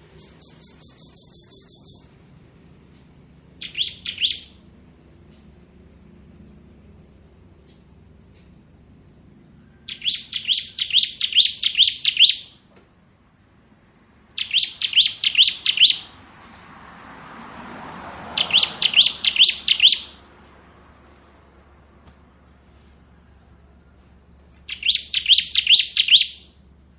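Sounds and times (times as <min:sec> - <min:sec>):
bird singing rattling phrases: 0:00.0 - 0:17.0, 0:18.2 - 0:22.9, 0:24.5 - 0:26.7.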